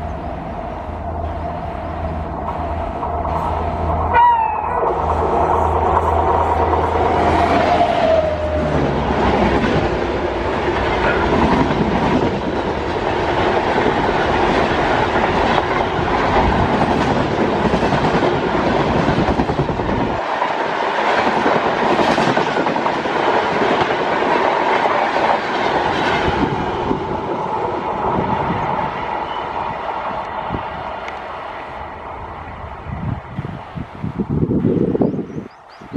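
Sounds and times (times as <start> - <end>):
deep train rumble: 0.0 - 35.9
train wheels clattering on rails: 1.2 - 31.6.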